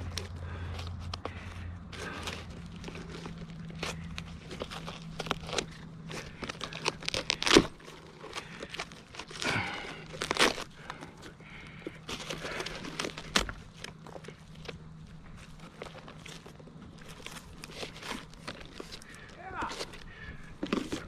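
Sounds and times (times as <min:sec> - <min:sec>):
rotten wood crackling and crunching: 0:00.0 - 0:21.0.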